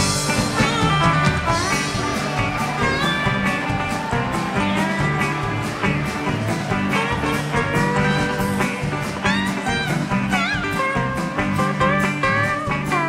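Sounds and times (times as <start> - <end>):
country rock band playing: 0.0 - 13.0
guitar lead bending notes: 0.0 - 13.0.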